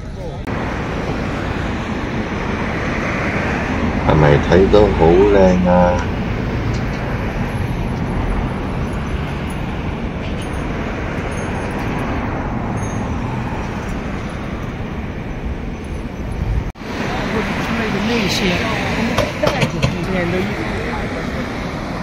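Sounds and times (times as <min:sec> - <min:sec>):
city road traffic rumble: 0:00.0 - 0:22.0.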